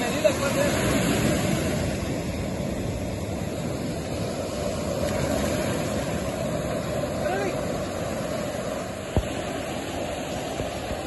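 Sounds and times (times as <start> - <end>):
surf washing onto cobble beach: 0.0 - 11.0.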